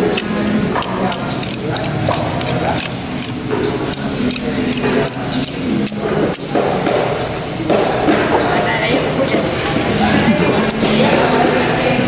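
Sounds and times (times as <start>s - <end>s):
voices chattering: 0.0s - 12.0s.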